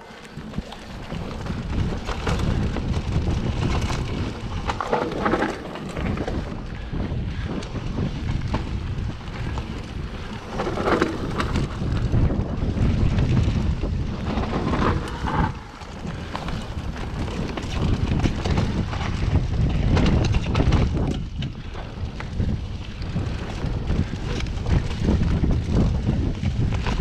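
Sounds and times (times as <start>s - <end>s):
tyres rumbling on dirt: 0.0s - 27.0s
wind buffeting microphone: 0.0s - 27.0s
bike knocks and rattles: 0.3s - 27.0s.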